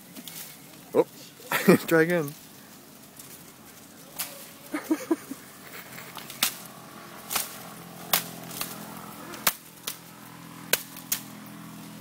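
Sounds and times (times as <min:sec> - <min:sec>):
elephant snapping fodder stalks: 0:00.0 - 0:00.9, 0:02.3 - 0:12.0.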